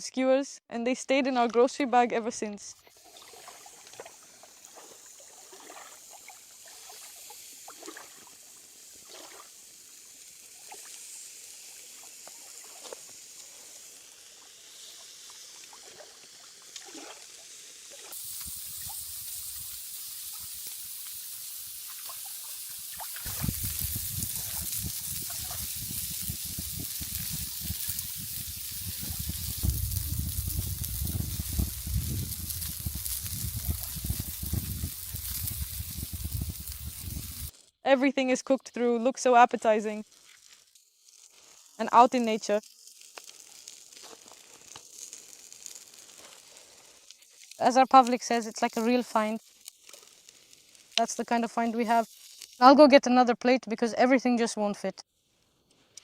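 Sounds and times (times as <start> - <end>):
skewers sizzling on grill: 2.8 - 37.8, 38.4 - 53.0
fire crackling: 2.8 - 53.2.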